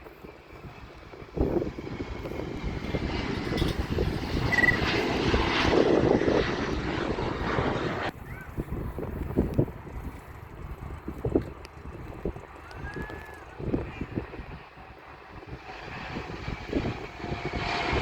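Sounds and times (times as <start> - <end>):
airplane engines passing: 0.0 - 18.0.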